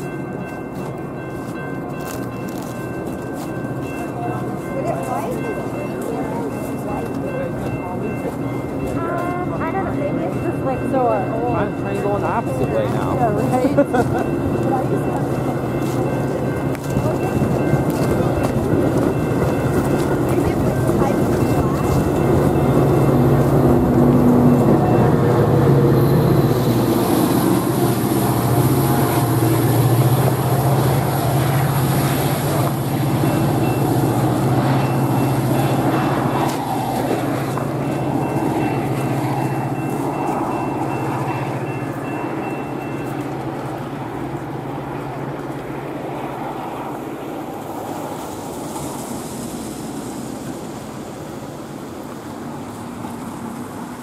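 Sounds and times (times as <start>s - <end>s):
diesel locomotive hum: 0.0s - 54.0s
rail rumble: 0.0s - 54.0s.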